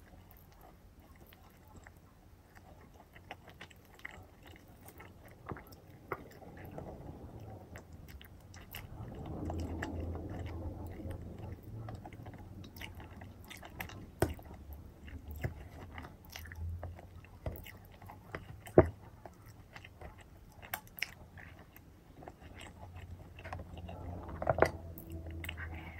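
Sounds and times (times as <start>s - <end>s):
chewing and biting fried chicken: 0.0s - 25.9s.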